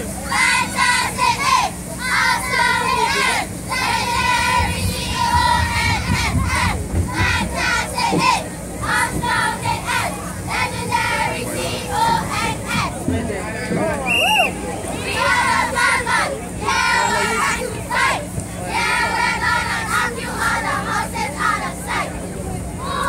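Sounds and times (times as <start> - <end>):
crowd hum: 0.0 - 23.0
girls chanting a cheer: 0.2 - 13.1, 14.5 - 22.2, 22.8 - 23.0.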